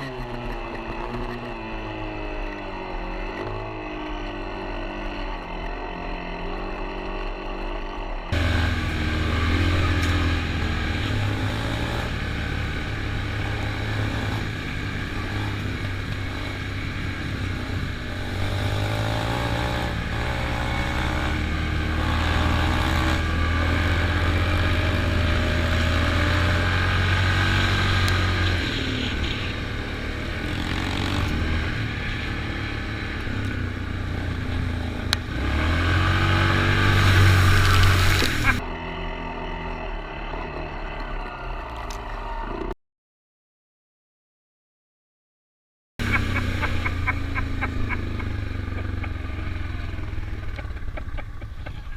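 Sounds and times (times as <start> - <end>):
off-road vehicle engine revving: 0.0 - 42.7, 46.0 - 51.9.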